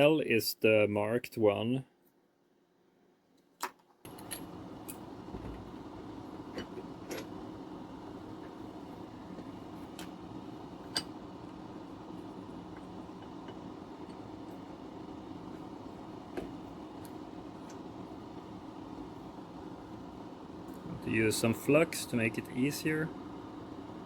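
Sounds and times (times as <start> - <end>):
steady low hum: 4.1 - 24.0.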